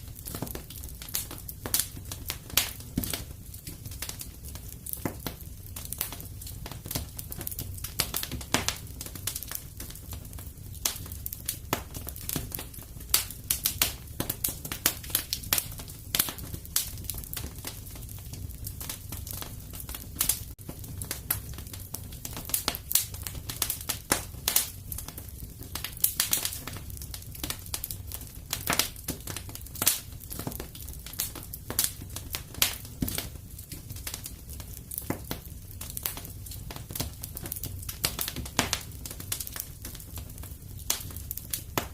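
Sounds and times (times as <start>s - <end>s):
low rumble of flame: 0.0s - 41.9s
wood fire crackling and popping: 0.0s - 41.9s.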